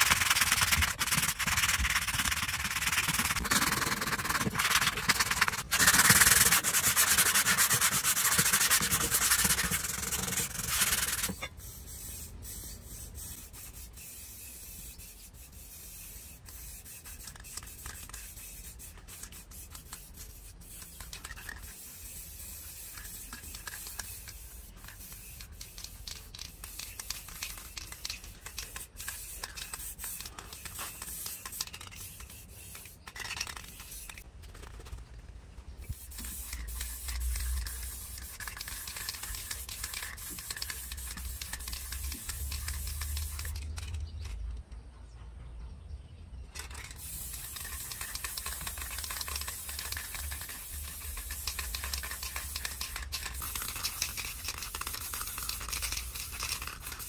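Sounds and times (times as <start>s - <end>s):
sandpaper scratching on metal: 0.0s - 34.2s, 35.9s - 44.0s, 46.6s - 57.0s.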